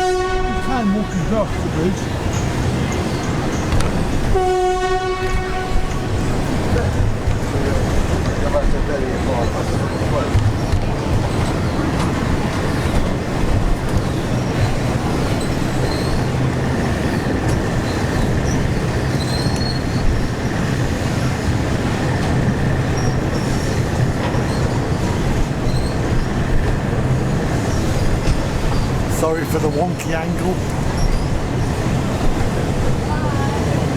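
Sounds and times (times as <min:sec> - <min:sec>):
train rumbling on rails: 0:00.0 - 0:33.9
wheels squealing: 0:05.2 - 0:33.6.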